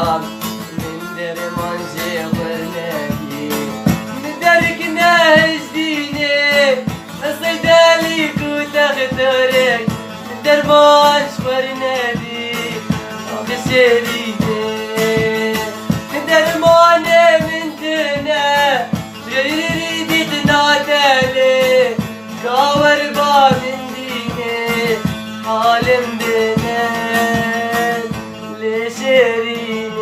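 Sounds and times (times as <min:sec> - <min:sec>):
person singing: 0:00.0 - 0:30.0
plucked string instrument strumming: 0:00.0 - 0:30.0.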